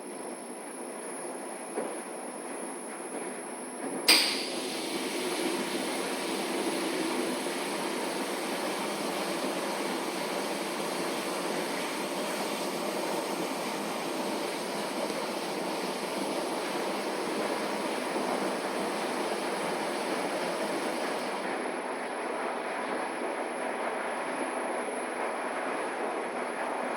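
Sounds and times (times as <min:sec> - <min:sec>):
washing machine running: 0:00.0 - 0:26.9.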